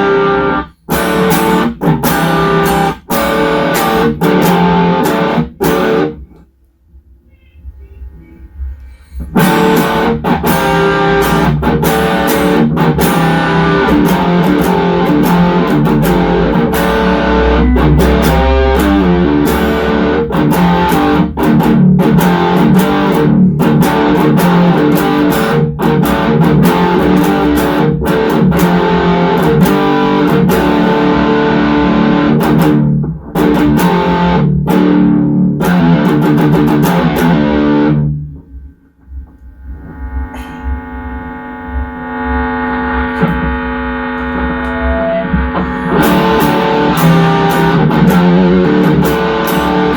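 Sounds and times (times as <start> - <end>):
distorted electric guitar riff: 0.0 - 6.5, 7.6 - 49.9.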